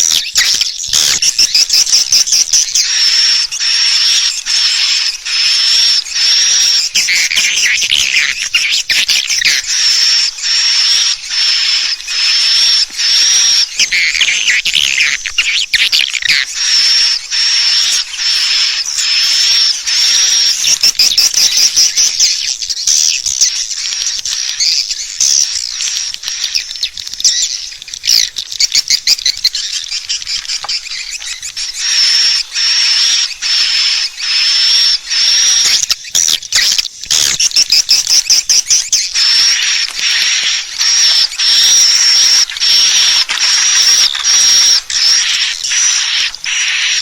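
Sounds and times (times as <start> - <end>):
swiftlet chirps and twittering: 0.0 - 47.0.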